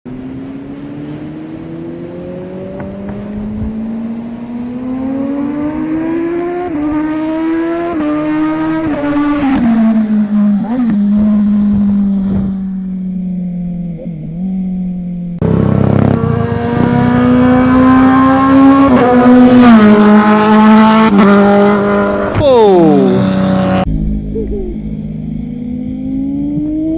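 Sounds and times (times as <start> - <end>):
motorcycle engine accelerating hard: 0.1 - 26.9.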